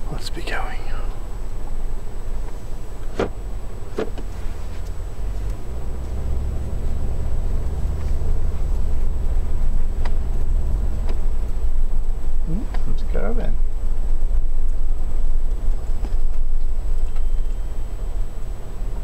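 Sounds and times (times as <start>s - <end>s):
car engine accelerating: 1.2s - 19.0s.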